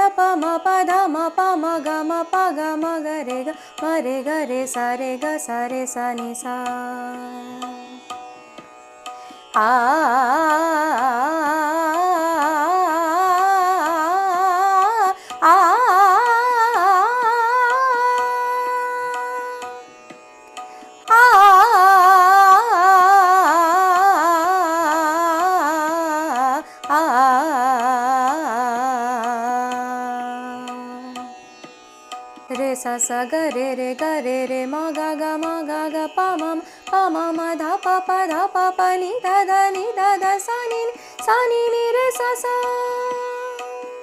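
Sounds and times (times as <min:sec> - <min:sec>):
fast indian classical melody: 0:00.0 - 0:44.0.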